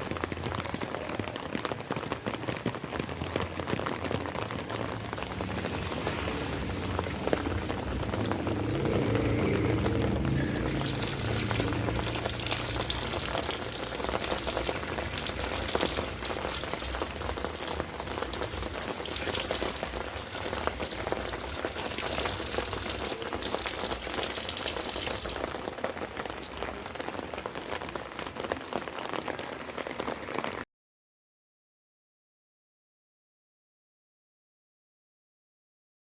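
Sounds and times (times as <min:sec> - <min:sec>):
light rain falling: 0:00.0 - 0:30.7.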